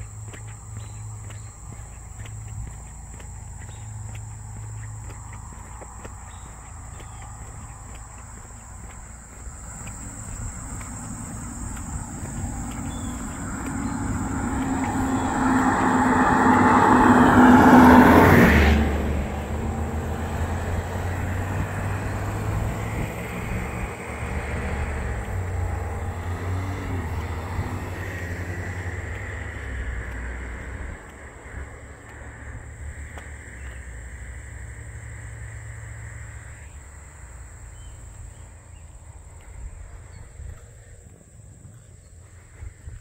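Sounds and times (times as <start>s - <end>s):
vehicle driving past: 0.0s - 42.7s
insects trilling: 0.0s - 43.0s.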